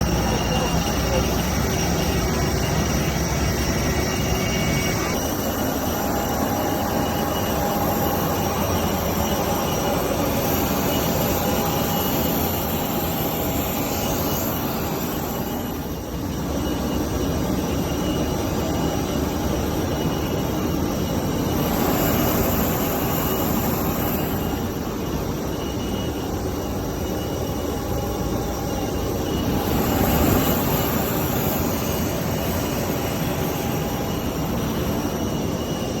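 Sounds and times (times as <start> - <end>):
jet turbine roar and whine: 0.0 - 36.0.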